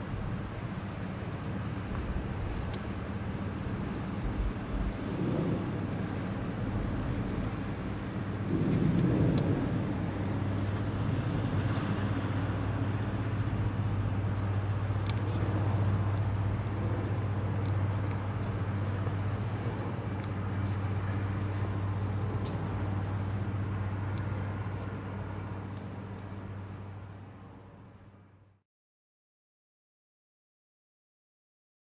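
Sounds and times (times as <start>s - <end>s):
ship engines droning: 0.0s - 28.5s.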